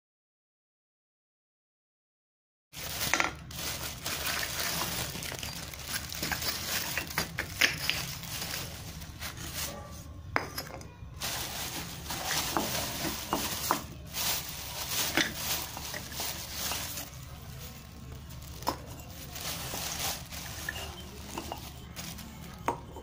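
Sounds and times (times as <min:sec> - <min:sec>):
plastic bag rustling: 0:02.8 - 0:23.0
clay pots clinking: 0:03.0 - 0:23.0.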